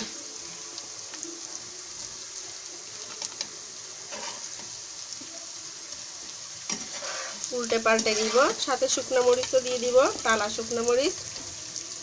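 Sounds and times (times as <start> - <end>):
onions and fish sizzling in oil: 0.0 - 12.0.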